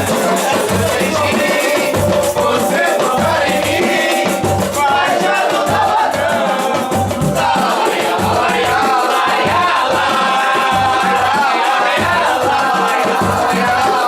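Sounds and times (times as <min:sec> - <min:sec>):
samba music with singing: 0:00.0 - 0:14.0.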